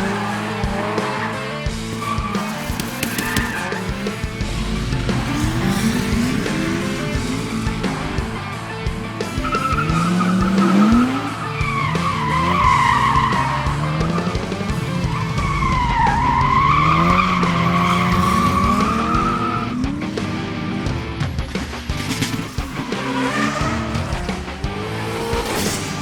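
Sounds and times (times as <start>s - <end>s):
race car engine revving: 0.0s - 26.0s
tires squealing: 0.0s - 26.0s.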